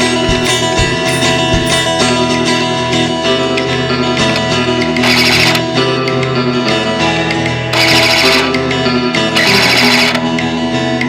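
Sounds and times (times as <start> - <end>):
guitar music with beat: 0.0 - 11.0.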